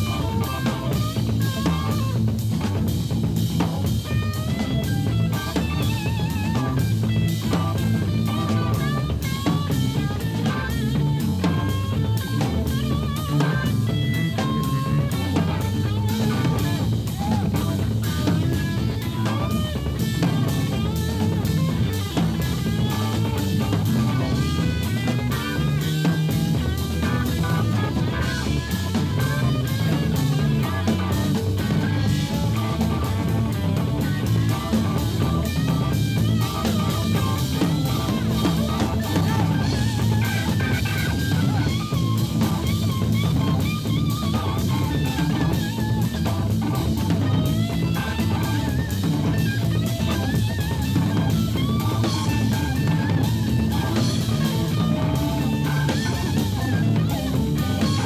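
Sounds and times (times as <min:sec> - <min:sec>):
drum kit with cymbals: 0:00.0 - 0:58.0
lead electric guitar: 0:00.0 - 0:58.0.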